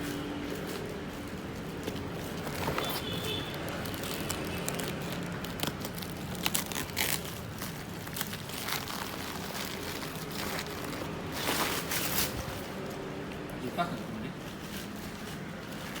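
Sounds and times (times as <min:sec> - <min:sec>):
plastic wrap crinkling: 0:00.0 - 0:13.1, 0:14.3 - 0:16.0.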